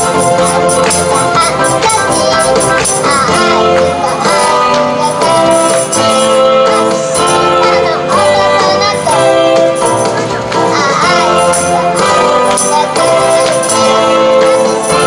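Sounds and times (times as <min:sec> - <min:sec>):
girl singing: 0:00.0 - 0:15.0
jingling tambourine-like beat: 0:00.0 - 0:15.0.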